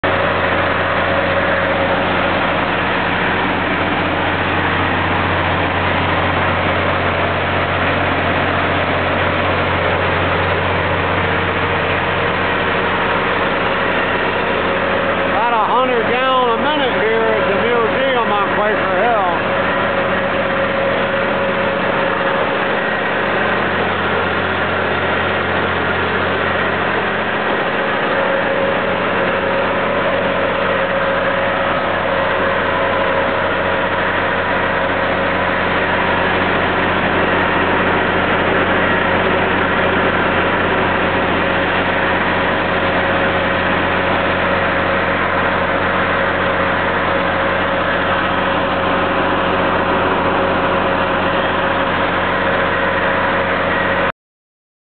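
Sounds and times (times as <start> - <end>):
constant whine: 0.0 - 54.1
drilling rig engine drone: 0.0 - 54.1.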